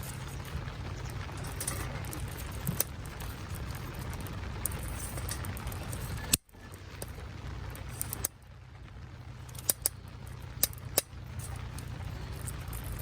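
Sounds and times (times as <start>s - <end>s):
rain falling: 0.0s - 13.0s
wood fire crackling and popping: 0.0s - 13.0s.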